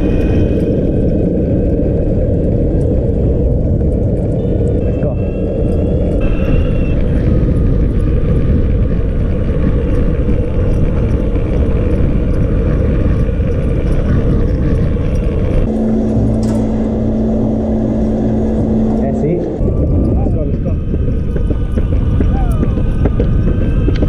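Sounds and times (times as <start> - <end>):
skateboard wheels rolling on asphalt: 0.0 - 15.8, 19.7 - 24.0
steady low hum: 0.0 - 24.0.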